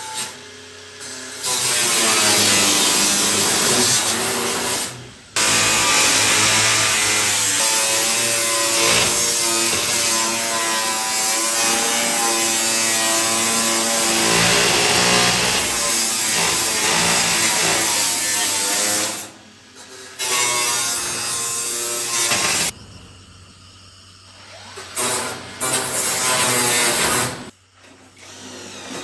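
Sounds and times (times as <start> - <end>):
power tool cutting wood: 1.0 - 22.8, 23.7 - 29.0.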